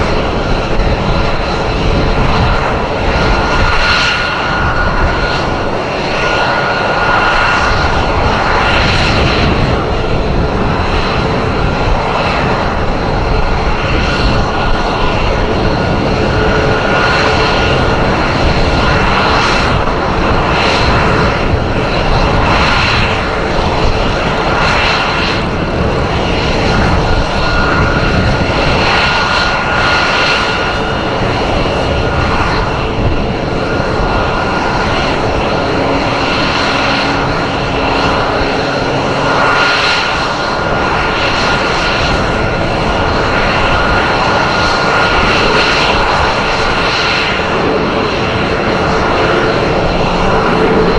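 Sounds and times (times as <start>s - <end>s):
aircraft engine noise: 0.0s - 50.9s
high engine whine: 0.0s - 50.9s.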